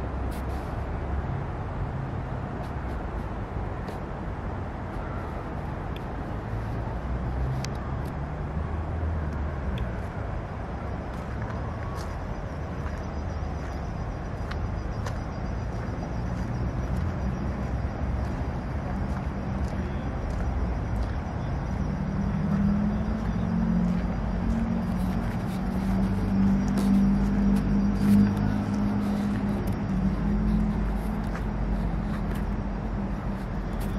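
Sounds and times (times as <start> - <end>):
distant road traffic: 0.0 - 33.9.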